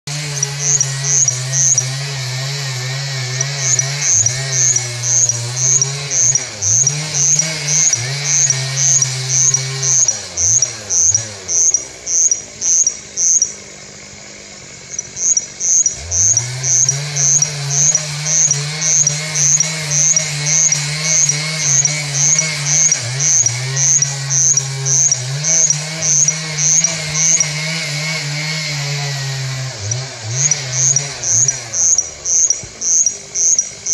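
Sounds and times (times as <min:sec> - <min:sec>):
chainsaw running: 0:00.1 - 0:33.9.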